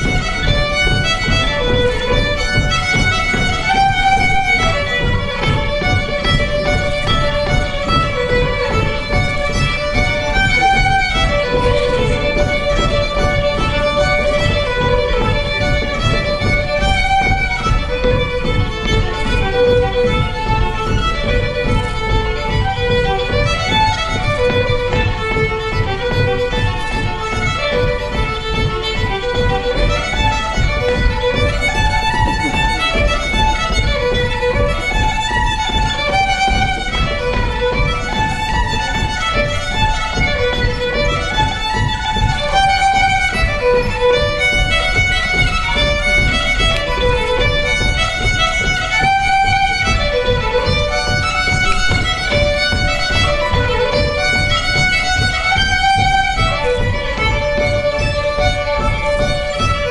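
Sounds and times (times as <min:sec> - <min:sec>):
fiddle playing a jig: 0:00.0 - 0:59.9.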